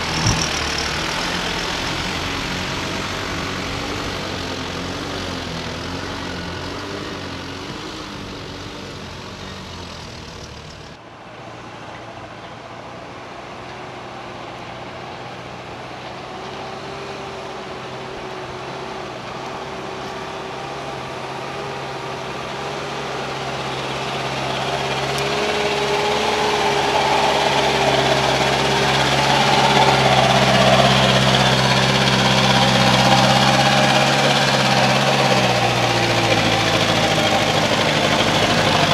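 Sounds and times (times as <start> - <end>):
diesel truck engine climbing: 0.0 - 38.9.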